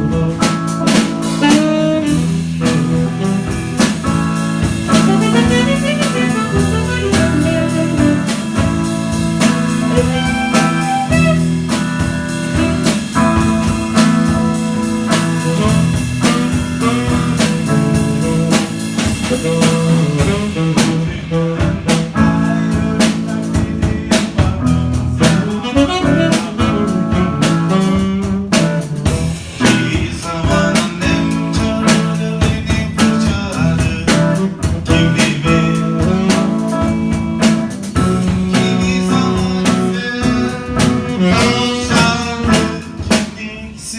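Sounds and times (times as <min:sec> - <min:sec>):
saxophone: 0:00.0 - 0:43.4
drums playing busy beat: 0:00.0 - 0:43.9
guitar: 0:00.0 - 0:43.9.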